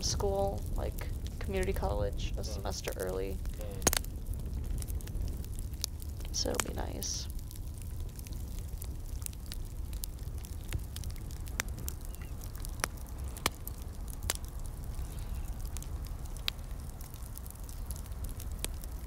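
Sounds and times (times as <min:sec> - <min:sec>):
fire crackling: 0:00.0 - 0:19.0
low rumble: 0:00.0 - 0:19.0.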